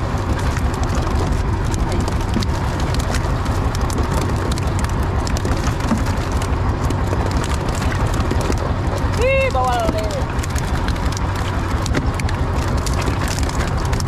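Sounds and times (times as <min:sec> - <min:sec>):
boat engine low rumble: 0:00.0 - 0:14.0.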